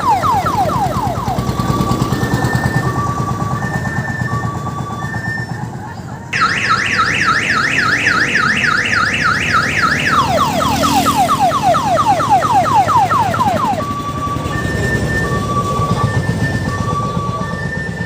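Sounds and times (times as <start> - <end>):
diesel engine running: 0.0 - 18.0
electronic siren warbling: 0.0 - 18.0.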